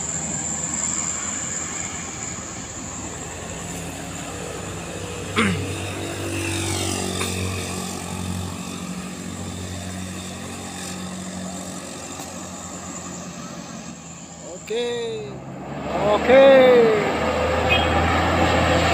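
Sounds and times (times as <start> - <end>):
diesel truck engines droning: 0.0 - 18.9.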